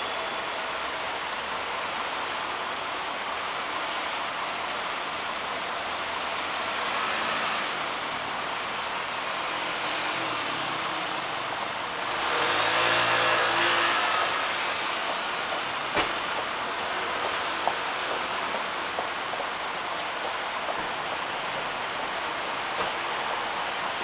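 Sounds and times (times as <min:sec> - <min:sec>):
road traffic noise: 0:00.0 - 0:24.0
vehicle engines passing: 0:00.0 - 0:24.0.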